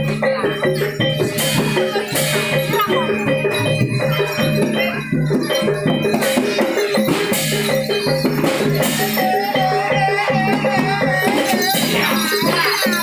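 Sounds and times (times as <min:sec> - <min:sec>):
bright high percussion strokes: 0:00.0 - 0:13.0
gamelan music: 0:00.0 - 0:13.0
wavering melodic line: 0:00.0 - 0:13.0.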